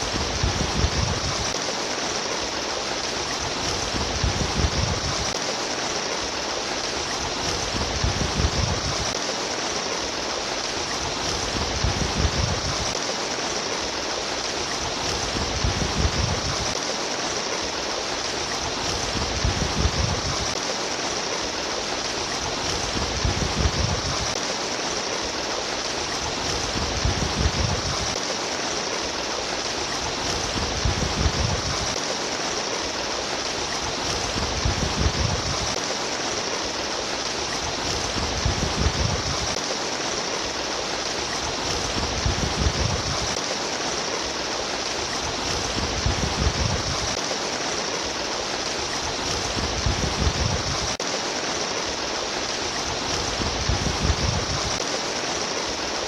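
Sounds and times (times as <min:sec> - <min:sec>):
water gurgling and splashing: 0:00.0 - 0:56.0.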